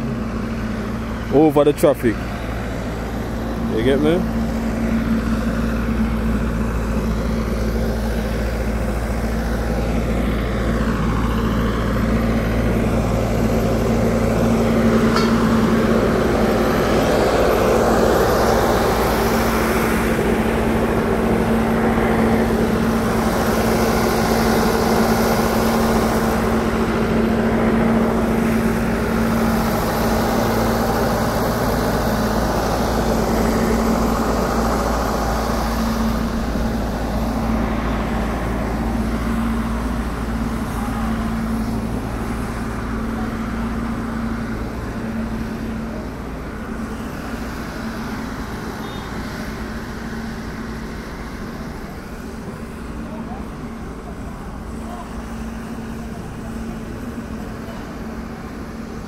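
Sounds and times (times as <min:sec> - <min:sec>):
constant low hum: 0:00.0 - 0:59.0
construction machinery: 0:00.0 - 0:59.0
road traffic rumble: 0:00.0 - 0:59.0.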